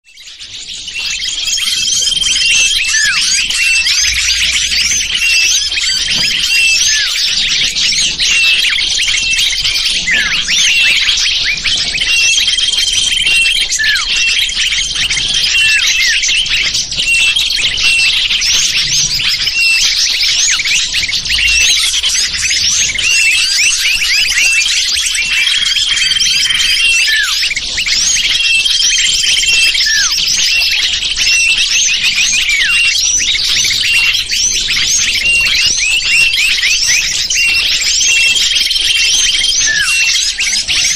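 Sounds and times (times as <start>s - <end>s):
small birds chirping: 0.0s - 40.9s
held whistled notes: 0.1s - 40.9s.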